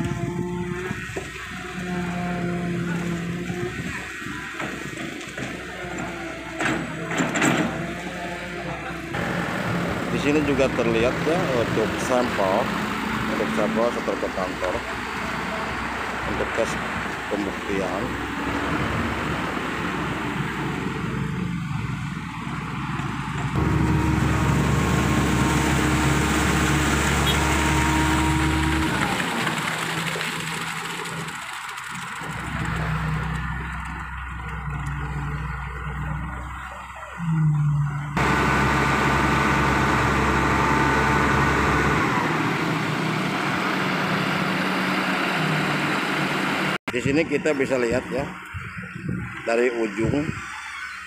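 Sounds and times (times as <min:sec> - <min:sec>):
excavator diesel engine humming: 0:00.0 - 0:50.8
engine drone: 0:00.0 - 0:51.0.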